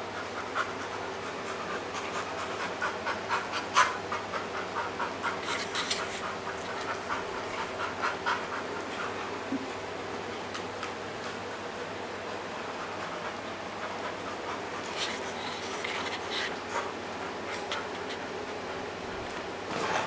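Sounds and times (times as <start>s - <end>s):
dog panting: 0.0s - 9.5s, 11.2s - 19.0s.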